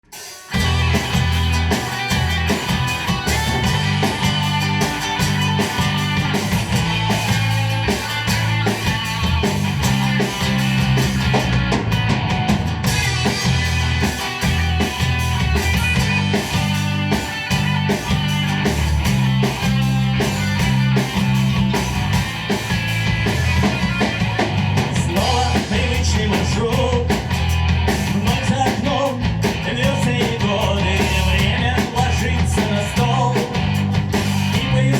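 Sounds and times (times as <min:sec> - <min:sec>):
live rock band playing: 0:00.0 - 0:34.9.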